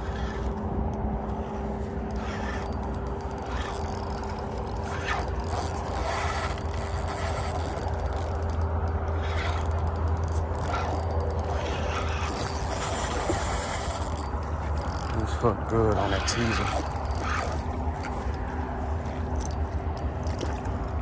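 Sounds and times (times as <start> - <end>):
fishing reel cranking: 0.0 - 21.0.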